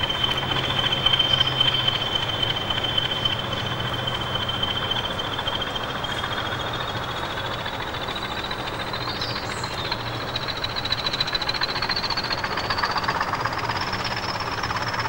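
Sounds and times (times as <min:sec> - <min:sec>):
diesel locomotive engine running: 0:00.0 - 0:15.0.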